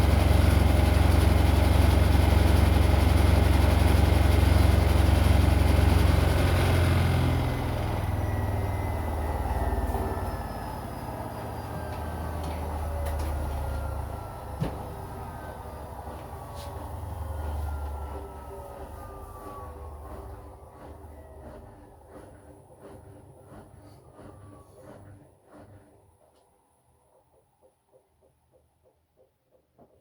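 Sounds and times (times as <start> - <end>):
washing machine drum spinning down: 0.0 - 25.8.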